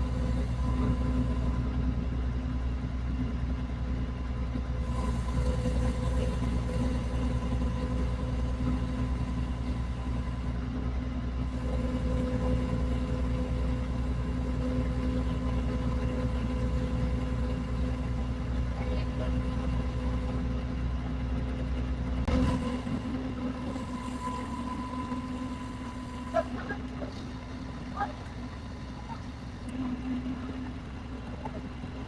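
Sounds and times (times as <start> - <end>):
engine humming: 0.0 - 32.0.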